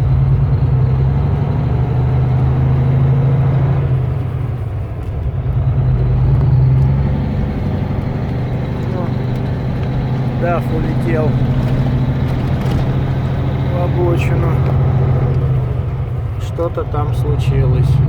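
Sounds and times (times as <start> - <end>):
truck diesel engine droning: 0.0 - 18.0.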